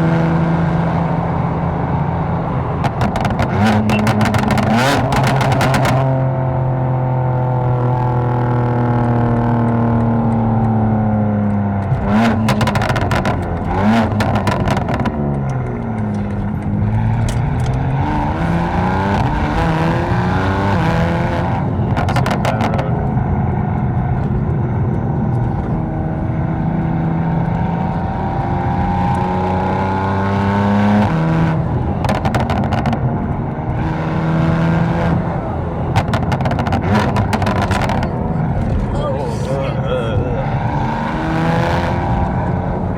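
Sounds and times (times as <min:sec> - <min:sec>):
car engine and exhaust: 0:00.0 - 0:42.9
exhaust cracks: 0:02.2 - 0:06.3, 0:07.8 - 0:26.4, 0:30.9 - 0:42.9.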